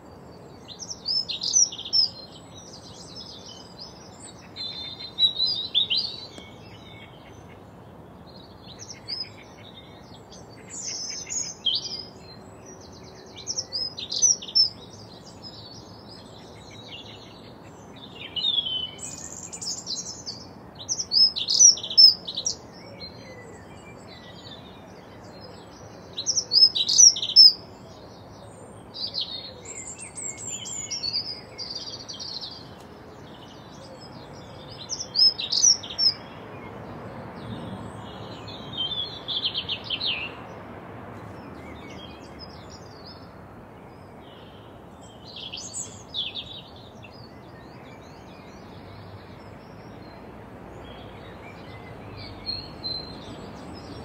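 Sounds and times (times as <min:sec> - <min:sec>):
faint background noise: 0:00.0 - 0:54.0
songbirds chirping and whistling: 0:00.0 - 0:54.0.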